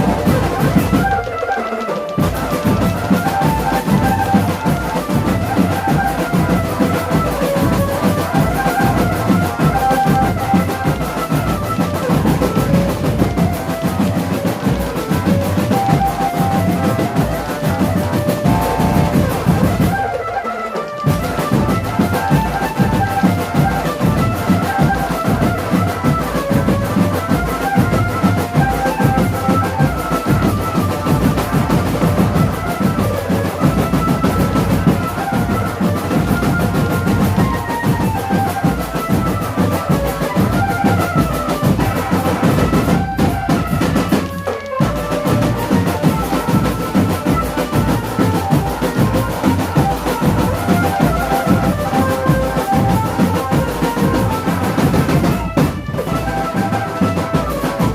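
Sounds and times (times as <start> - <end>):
marching drums and rolls: 0.0 - 57.9
stepping melody line: 0.0 - 57.9.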